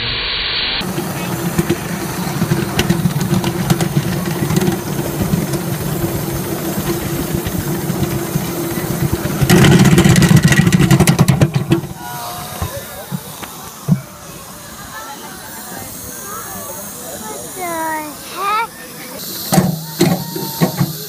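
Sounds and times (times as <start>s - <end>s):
miniature train rumbling: 0.8s - 21.0s
wheels clicking on rails: 0.8s - 21.0s.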